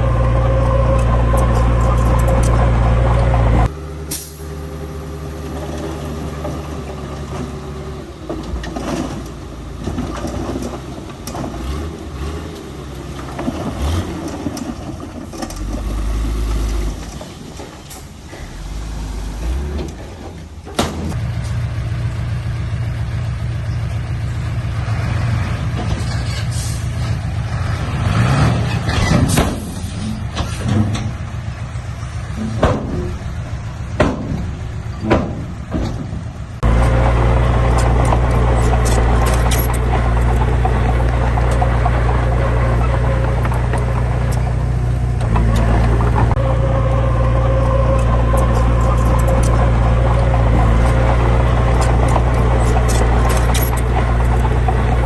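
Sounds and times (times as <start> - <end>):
diesel truck engines under load: 0.0 - 55.0.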